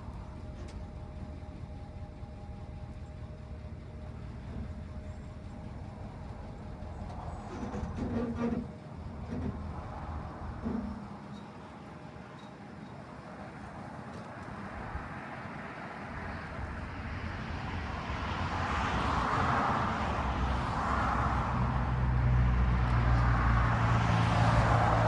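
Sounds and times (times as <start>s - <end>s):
diesel truck engine droning: 0.0s - 25.0s.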